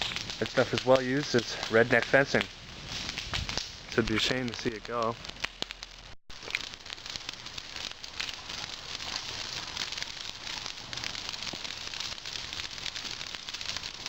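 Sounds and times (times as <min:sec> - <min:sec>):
brush fire crackling and popping: 0:00.0 - 0:14.0
rain falling: 0:00.0 - 0:14.0.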